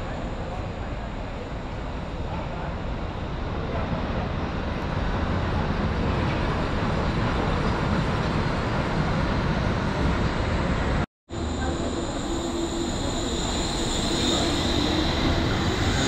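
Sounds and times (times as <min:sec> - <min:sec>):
suspended railway car rushing: 0:00.0 - 0:16.0.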